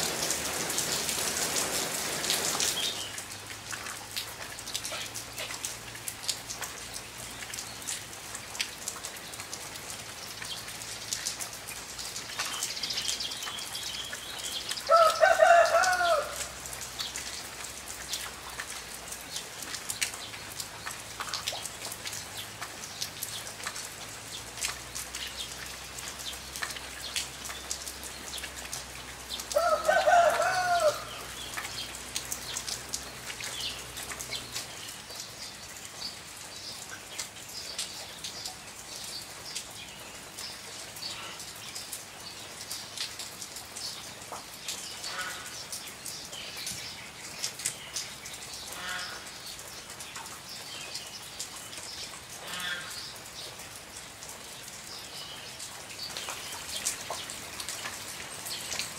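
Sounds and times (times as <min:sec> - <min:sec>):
rain pattering and dripping: 0:00.0 - 0:58.9.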